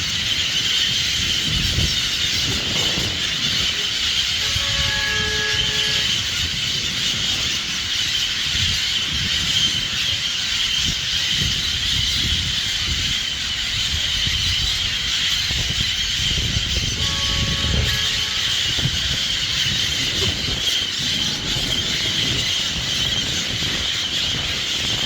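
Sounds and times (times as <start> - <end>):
flock of birds chattering: 0.0 - 25.0
low traffic rumble: 0.0 - 25.0.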